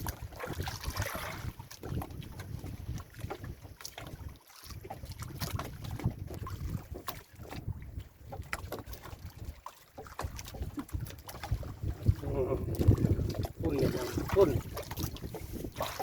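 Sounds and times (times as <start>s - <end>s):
water splashing and lapping: 0.0s - 16.0s
wind buffeting microphone: 0.0s - 16.0s.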